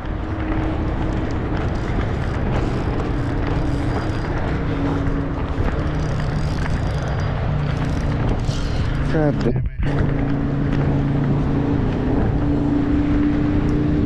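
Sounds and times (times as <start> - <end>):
passing vehicle engines humming: 0.0 - 14.0
road traffic rumble: 0.0 - 14.0.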